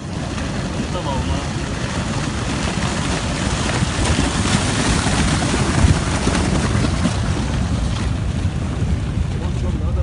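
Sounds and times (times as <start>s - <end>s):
mudslide rushing: 0.0s - 10.0s.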